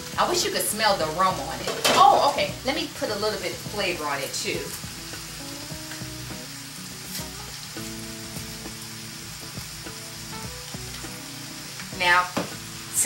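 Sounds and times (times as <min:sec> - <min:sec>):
quiet background music: 0:00.0 - 0:13.0
vegetables sizzling in a frying pan: 0:00.0 - 0:13.0.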